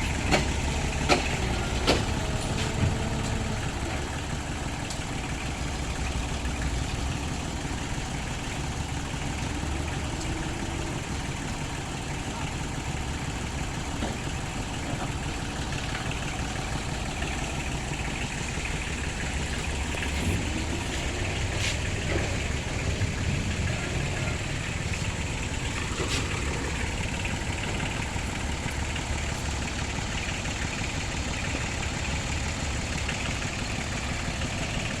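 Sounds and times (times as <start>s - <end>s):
small diesel engines idling: 0.0s - 35.0s.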